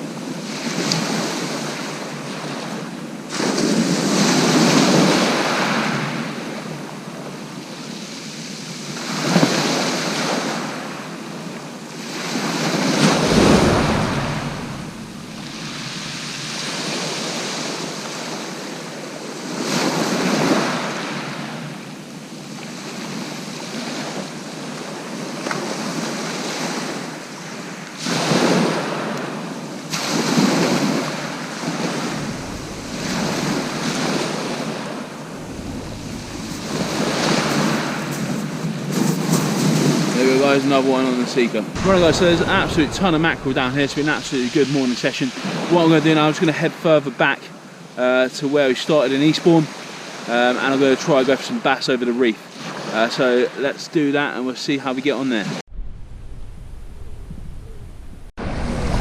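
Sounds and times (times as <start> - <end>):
sea waves breaking on beach: 0.0 - 53.6.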